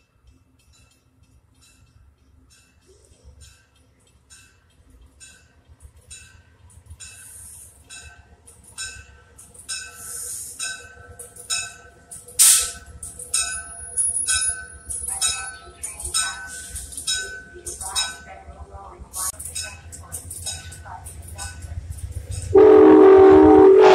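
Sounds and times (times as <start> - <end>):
train bell ringing: 0.0 - 23.9
train rumbling: 0.0 - 23.9.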